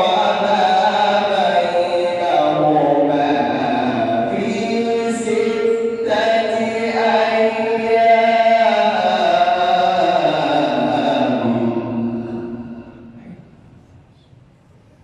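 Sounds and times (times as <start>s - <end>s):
man chanting melodically: 0.0s - 13.6s.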